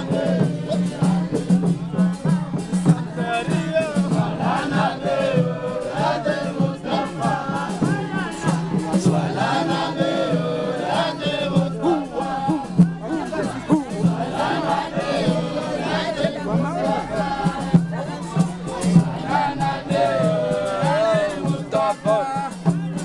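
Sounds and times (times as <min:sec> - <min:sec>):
crowd singing and chanting: 0:00.0 - 0:23.0.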